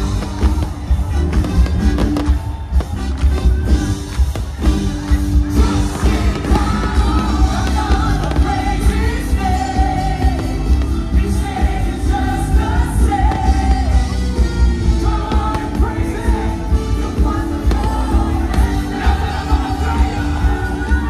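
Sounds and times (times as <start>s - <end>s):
loud music with singing: 0.0s - 21.0s.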